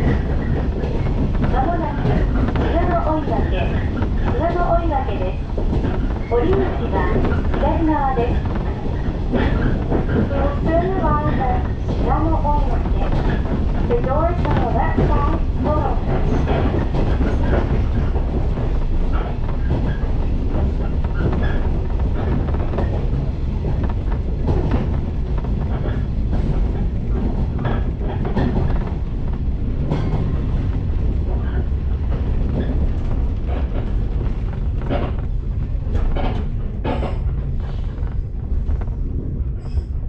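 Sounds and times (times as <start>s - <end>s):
wheels clicking over rail joints: 0.0s - 38.9s
train rumbling on rails: 0.0s - 40.0s.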